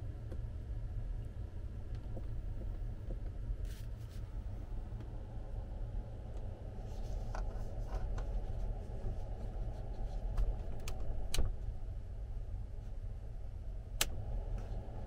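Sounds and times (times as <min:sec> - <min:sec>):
low hum of room air: 0:00.0 - 0:15.0.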